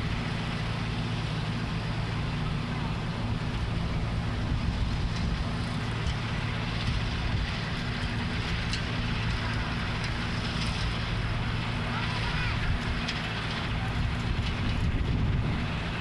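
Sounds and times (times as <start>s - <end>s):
constant rushing noise: 0.0s - 16.0s
tractor engine running: 0.0s - 16.0s.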